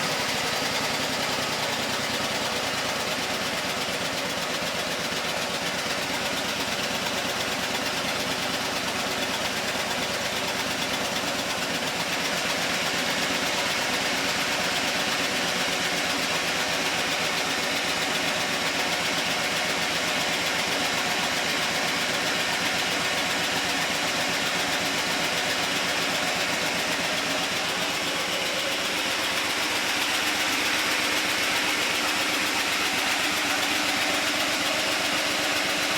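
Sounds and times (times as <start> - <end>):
petrol engine idling: 0.0 - 35.9.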